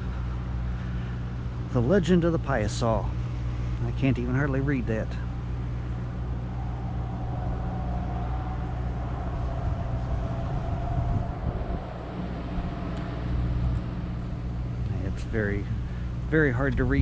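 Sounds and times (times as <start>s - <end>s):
faint drawn-out hum: 0.0s - 17.0s
road traffic rumble: 0.0s - 17.0s.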